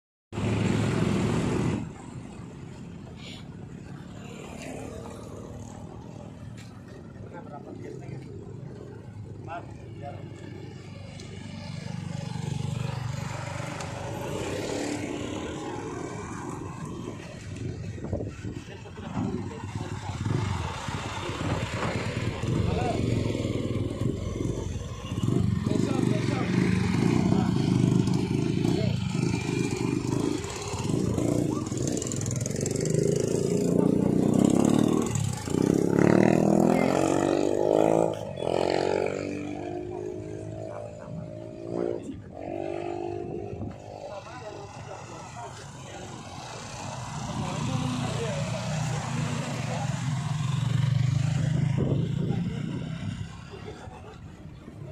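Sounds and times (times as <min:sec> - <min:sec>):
road traffic: 0:00.3 - 0:54.9
motorcycle passing: 0:00.4 - 0:54.9.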